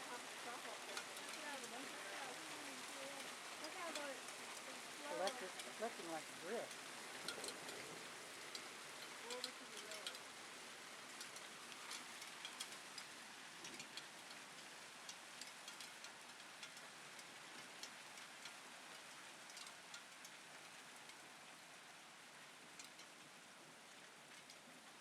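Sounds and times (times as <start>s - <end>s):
hail and rain hissing: 0.0s - 25.0s
hailstones ticking on hard surfaces: 0.0s - 25.0s.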